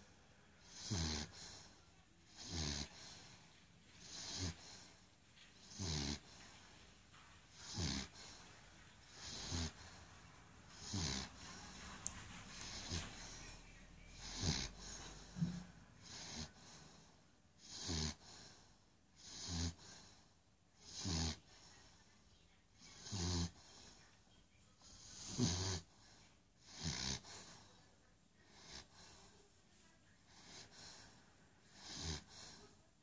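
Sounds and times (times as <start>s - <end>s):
puppy snoring: 0.6s - 3.4s, 4.0s - 21.9s, 22.8s - 24.0s, 24.8s - 27.8s, 28.4s - 29.5s, 30.3s - 32.8s.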